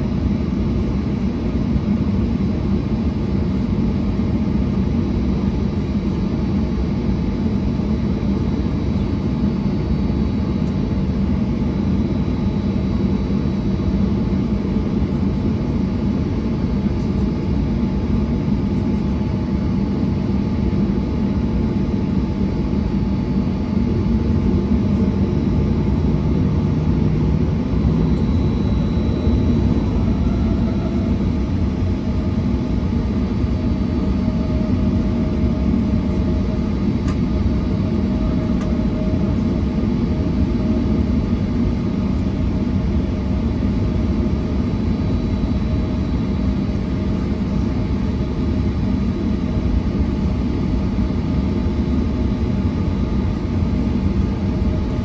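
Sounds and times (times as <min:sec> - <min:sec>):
jet engines low drone: 0:00.0 - 0:55.0
faint whining tones: 0:05.2 - 0:55.0.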